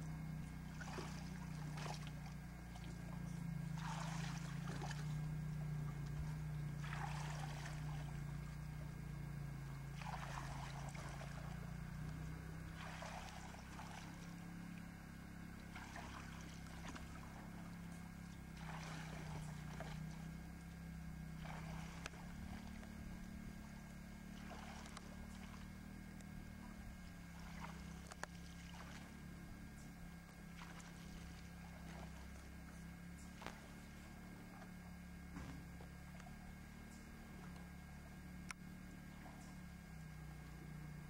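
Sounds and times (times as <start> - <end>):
paddle strokes in water: 0.0 - 41.0
steady low hum: 0.0 - 41.0.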